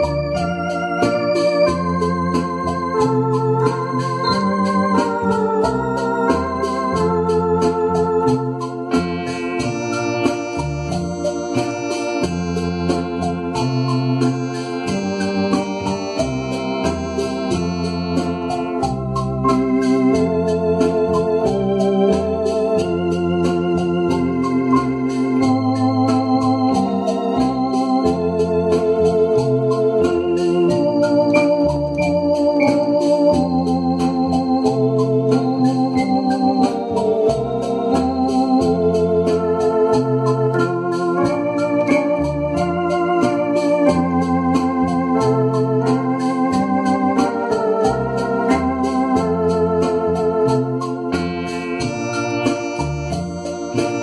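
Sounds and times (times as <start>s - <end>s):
electronic organ playing hymn chords: 0.0s - 54.0s
organ bass line: 0.0s - 54.0s.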